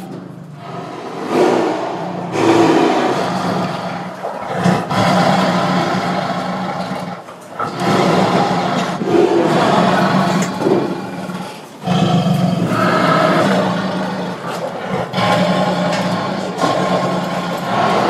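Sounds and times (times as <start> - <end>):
animal growling: 0.0 - 18.0.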